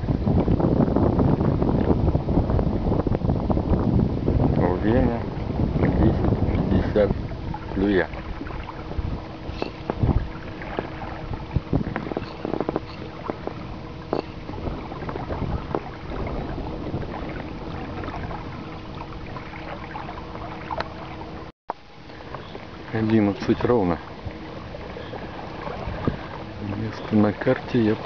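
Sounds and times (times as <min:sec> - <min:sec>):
faint steady hum: 0:00.0 - 0:28.0
water lapping against boat hull: 0:00.0 - 0:28.0
wind on microphone: 0:00.0 - 0:28.0.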